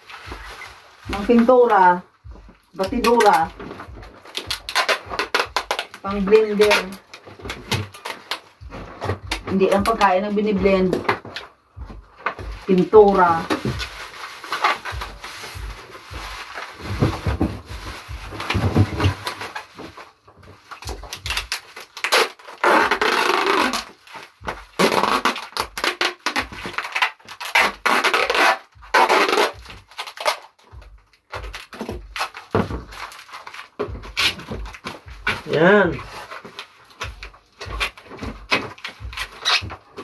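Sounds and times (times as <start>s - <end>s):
plastic wrapping crinkling: 0.0s - 40.0s.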